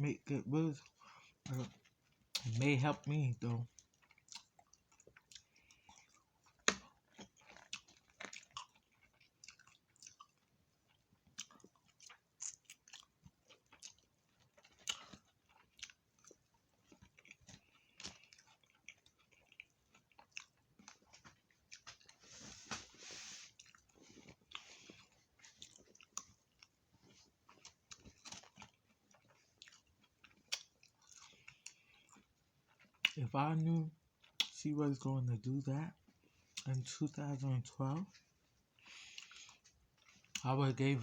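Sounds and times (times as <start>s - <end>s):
person chewing food: 0.7s - 33.2s, 34.0s - 34.6s, 35.9s - 36.8s, 37.9s - 41.0s.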